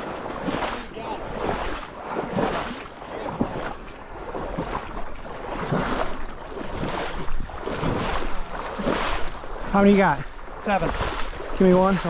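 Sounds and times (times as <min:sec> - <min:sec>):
water splashing from wading steps: 0:00.0 - 0:12.0.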